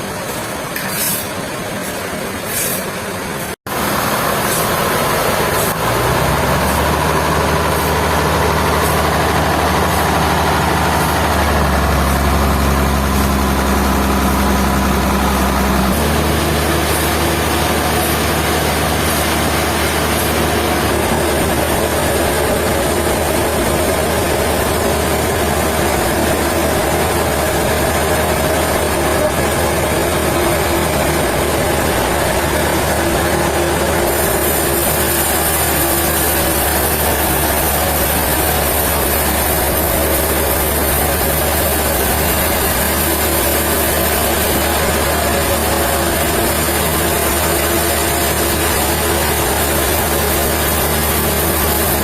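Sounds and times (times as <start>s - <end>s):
heavy engine running: 0.0s - 52.0s.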